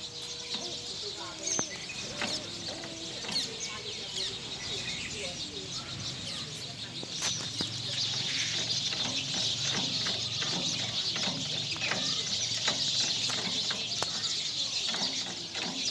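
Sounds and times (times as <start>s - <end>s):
chickens clucking: 0.0s - 15.9s.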